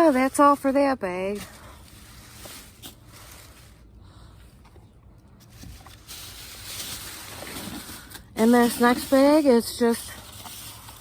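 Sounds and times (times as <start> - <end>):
faint handling noises: 0.0 - 11.0.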